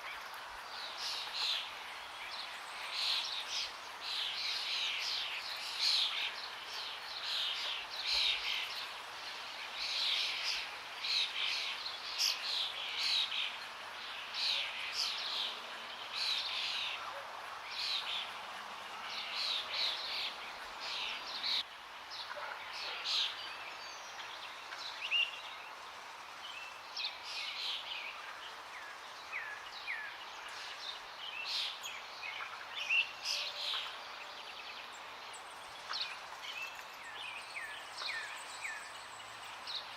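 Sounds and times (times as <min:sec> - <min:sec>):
running water rushing: 0:00.0 - 0:39.9
songbirds chirping and singing: 0:00.0 - 0:39.9.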